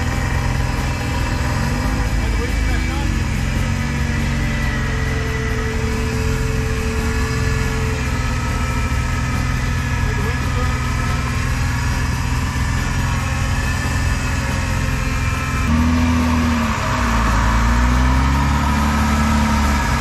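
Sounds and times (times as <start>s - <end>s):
car engine idling: 0.0s - 20.0s
winch whine: 0.0s - 20.0s.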